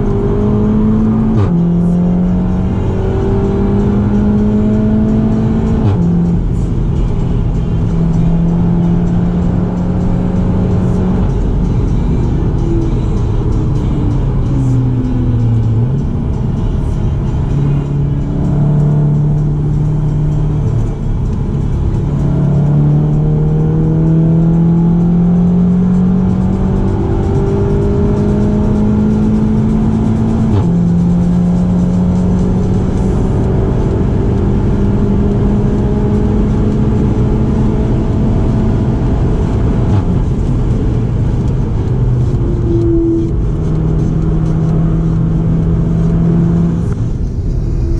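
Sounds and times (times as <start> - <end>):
car engine accelerating: 0.0 - 47.9
road and wind noise: 0.0 - 47.9.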